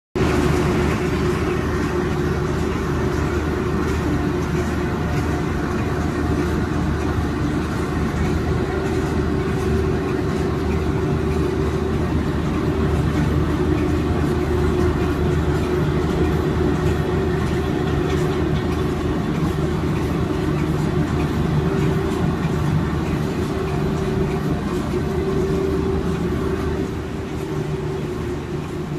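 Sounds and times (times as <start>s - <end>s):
printing press humming: 0.2s - 28.9s.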